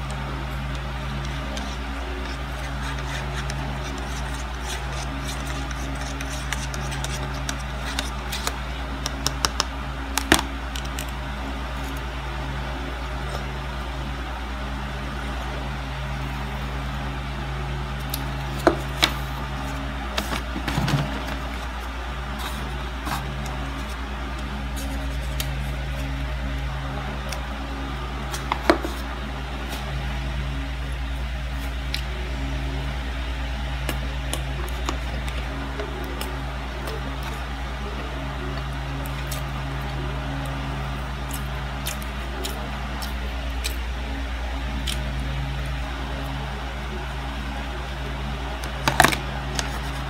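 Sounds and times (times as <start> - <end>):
low hum: 0.0 - 50.0.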